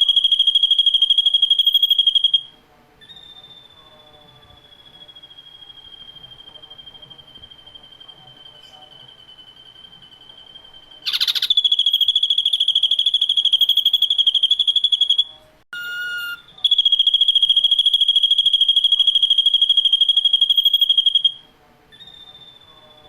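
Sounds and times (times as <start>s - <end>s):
bird fast-pulsing trills: 0.0s - 15.4s, 16.2s - 21.4s
low whistled bird note: 0.0s - 23.0s.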